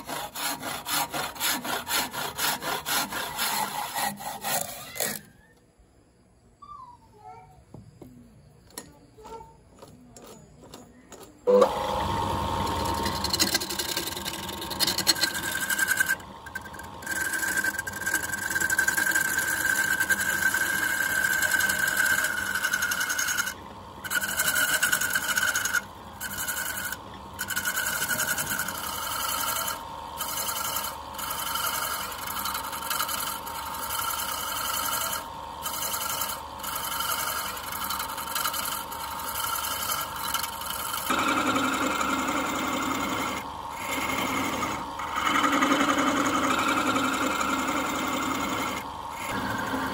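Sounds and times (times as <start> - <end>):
turning tool cutting wood: 0.0 - 5.3, 10.1 - 49.9
wood lathe whine: 0.0 - 5.6, 11.5 - 49.9.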